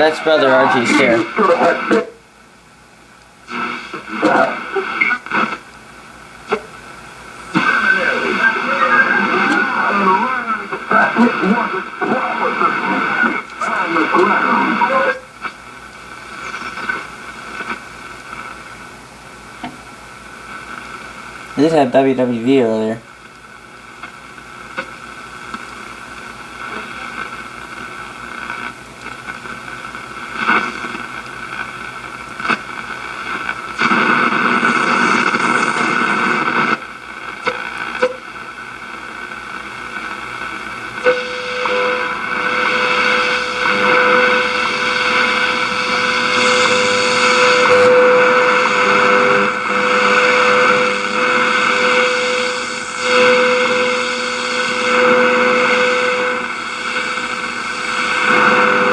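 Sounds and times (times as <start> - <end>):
steady radio tone: 0.0 - 2.1, 3.5 - 5.6, 6.4 - 18.6, 20.4 - 23.0, 24.6 - 58.9
radio static hiss: 0.0 - 58.9
radio clicks: 0.7 - 2.1, 3.2 - 5.8, 7.5 - 18.8, 19.6 - 19.9, 23.2 - 55.8.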